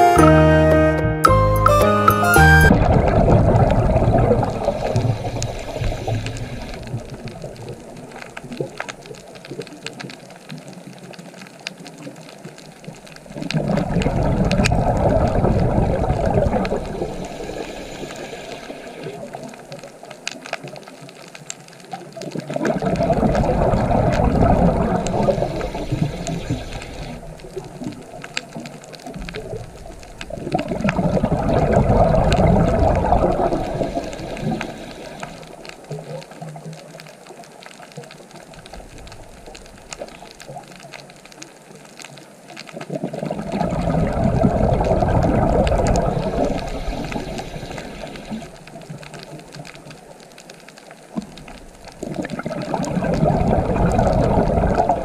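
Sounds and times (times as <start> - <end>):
rushing splashing water: 2.7 - 10.3, 13.0 - 20.0, 22.2 - 40.9, 42.7 - 50.2, 51.1 - 55.0.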